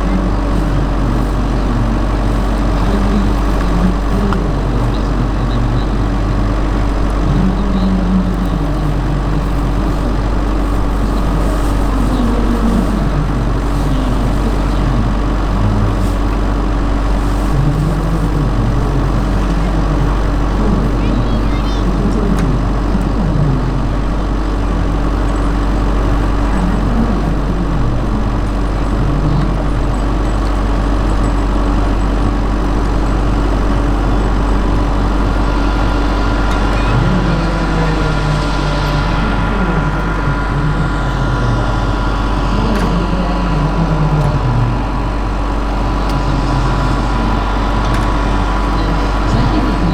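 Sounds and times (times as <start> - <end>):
model helicopter drone: 0.0 - 49.9.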